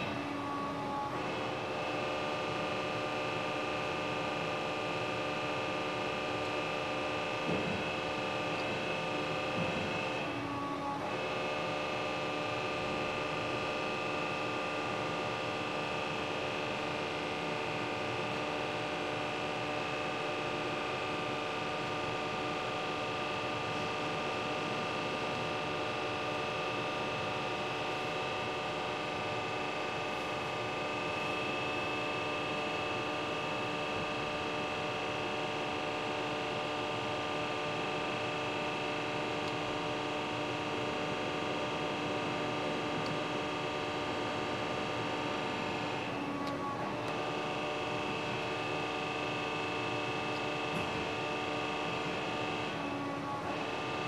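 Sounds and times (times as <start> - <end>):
lathe motors humming and whining: 0.0 - 54.0.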